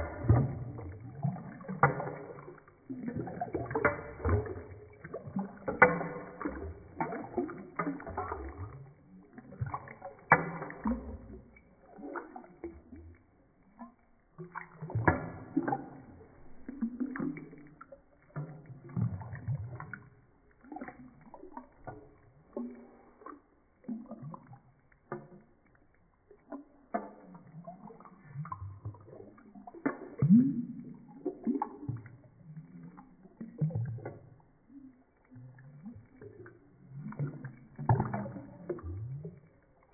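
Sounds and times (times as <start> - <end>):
water sloshing in a sink: 0.0 - 39.9.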